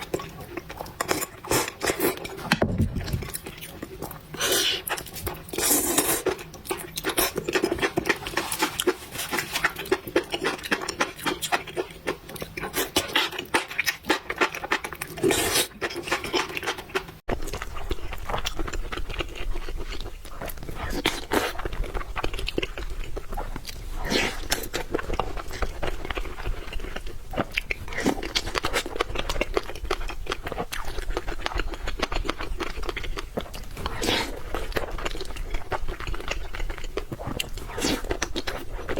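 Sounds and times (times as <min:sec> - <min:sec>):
close-up chewing noodles: 0:00.0 - 0:38.9.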